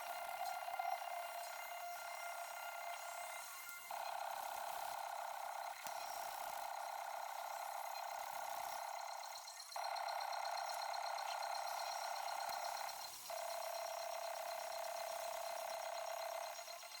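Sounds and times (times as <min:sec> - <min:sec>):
small electric motor running: 0:00.0 - 0:17.0.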